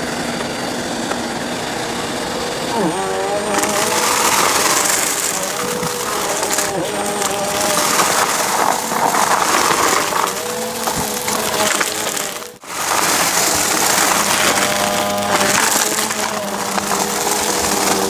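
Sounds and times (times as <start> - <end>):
vacuum motor hum: 0.0 - 18.0
debris crunching and rattling: 1.9 - 18.0.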